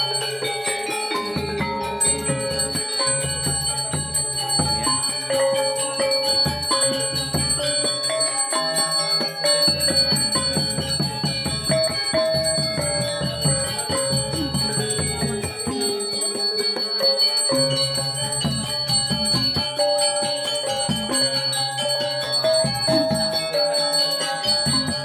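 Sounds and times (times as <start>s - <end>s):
handbell ringing: 0.0s - 25.0s
metallic percussion music: 0.0s - 25.0s.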